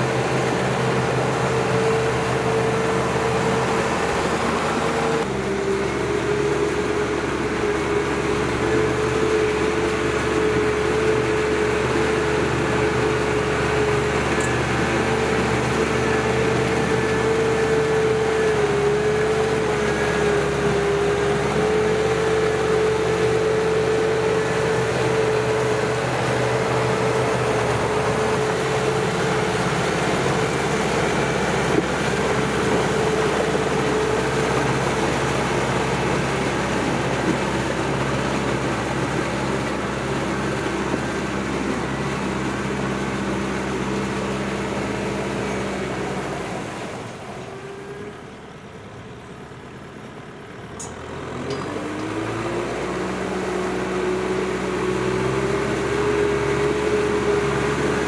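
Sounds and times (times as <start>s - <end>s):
steady whine: 0.0s - 47.6s
tractor diesel engine running: 0.0s - 58.0s.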